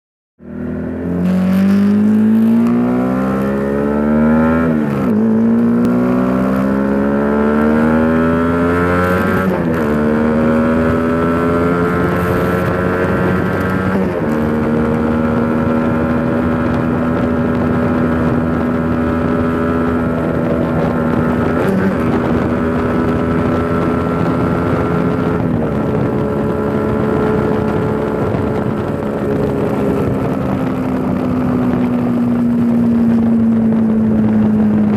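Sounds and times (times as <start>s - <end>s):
single-cylinder motorcycle engine revving: 0.4s - 34.9s.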